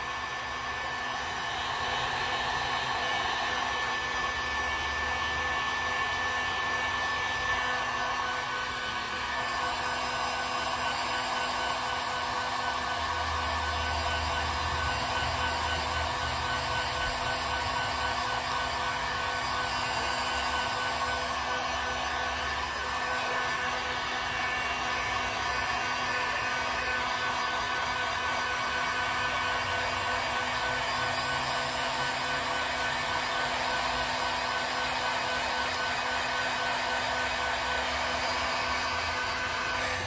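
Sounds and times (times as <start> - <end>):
hot-air blower running: 0.0 - 40.0.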